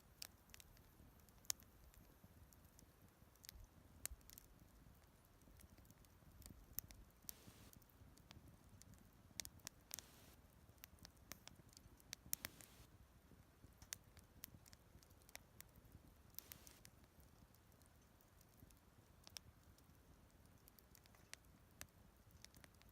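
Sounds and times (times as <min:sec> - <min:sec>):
campfire crackling and popping: 0:00.0 - 0:22.9.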